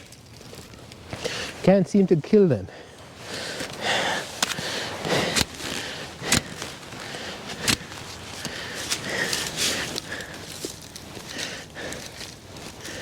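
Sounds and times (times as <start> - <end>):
rustling and scraping of soil: 0.0 - 13.0.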